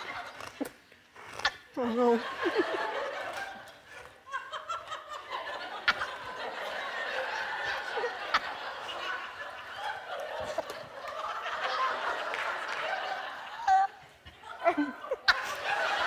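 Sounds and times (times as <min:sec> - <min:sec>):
audience laughing: 0:00.0 - 0:00.8, 0:01.8 - 0:16.0.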